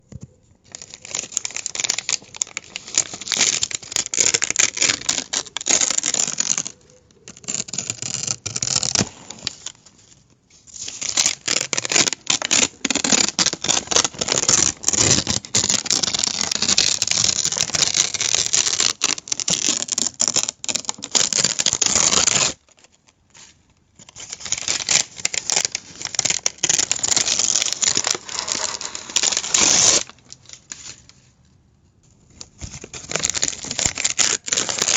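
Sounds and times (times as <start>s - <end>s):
paper crumpling: 0.1s - 31.3s, 32.3s - 34.9s.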